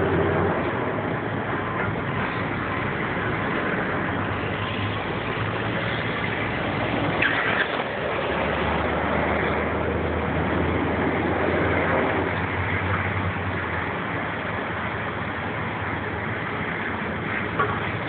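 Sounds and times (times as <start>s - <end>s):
broad rushing noise: 0.0s - 18.0s.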